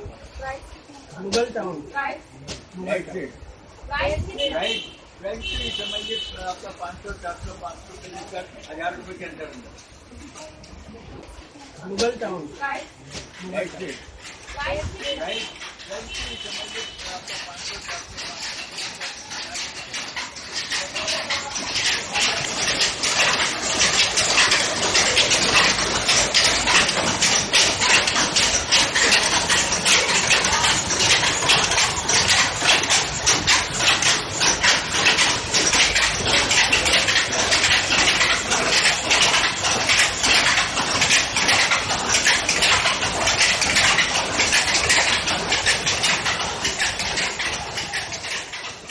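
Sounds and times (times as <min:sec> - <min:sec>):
weaving loom clattering: 0:00.0 - 0:48.9.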